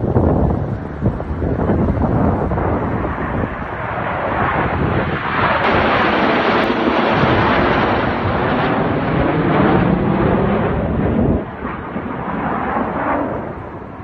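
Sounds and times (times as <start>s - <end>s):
jets passing overhead: 0.0s - 14.0s
wind rumbling on microphone: 0.0s - 14.0s.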